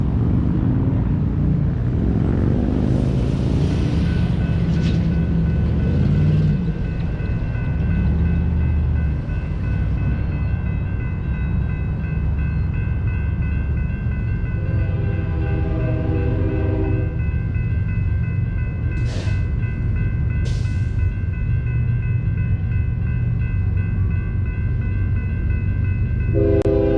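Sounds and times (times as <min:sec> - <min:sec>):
diesel locomotive engine rumble: 0:00.0 - 0:26.9.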